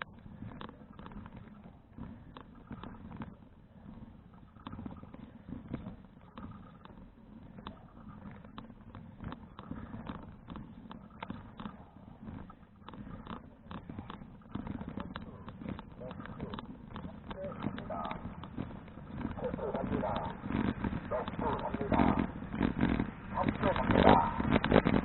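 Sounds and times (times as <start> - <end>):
bicycle clicks and rattles: 0.0 - 25.0
wind and road rumble: 0.0 - 25.0.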